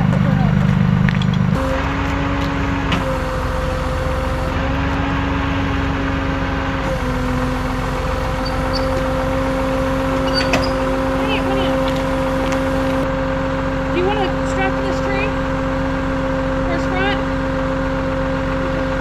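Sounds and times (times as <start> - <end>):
steady high whine: 0.0 - 19.0
truck engine idling: 0.0 - 19.0.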